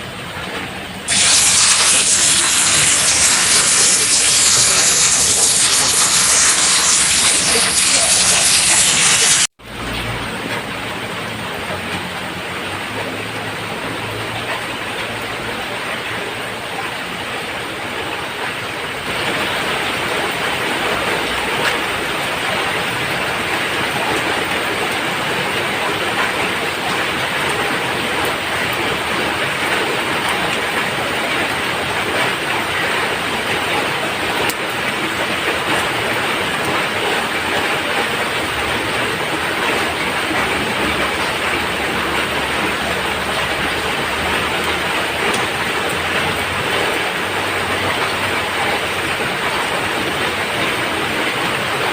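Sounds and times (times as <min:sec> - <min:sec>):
rain on a roof: 0:00.0 - 0:51.9.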